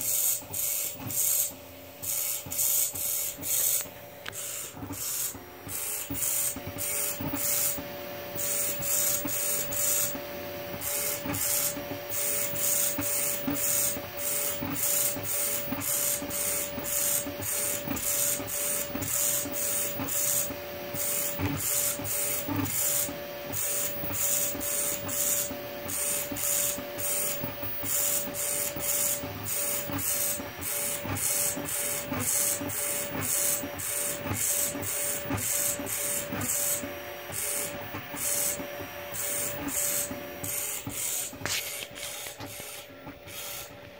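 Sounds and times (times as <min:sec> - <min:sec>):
steady hum: 0:00.0 - 0:43.9
stepper motors whirring: 0:00.0 - 0:43.9.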